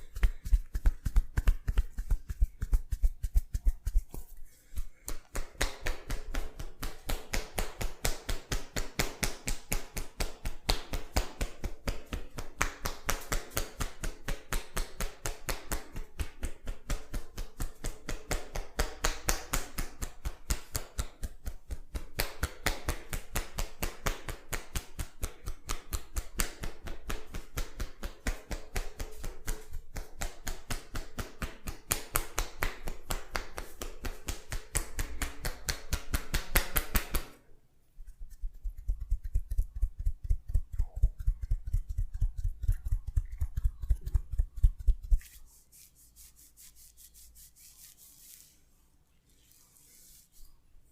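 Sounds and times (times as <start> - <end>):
hands tapping and slapping on head: 0.0 - 37.4, 38.1 - 45.4.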